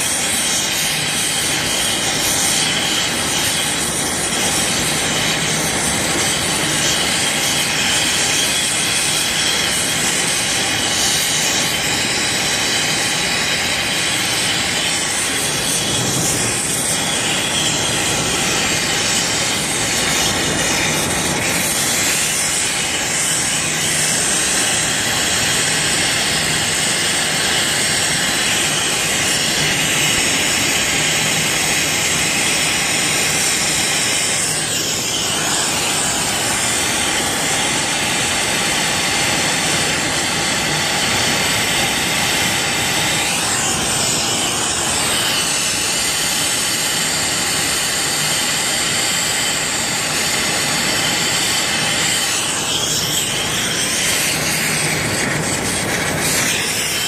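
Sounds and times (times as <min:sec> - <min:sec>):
rushing gas hiss: 0:00.0 - 0:57.0.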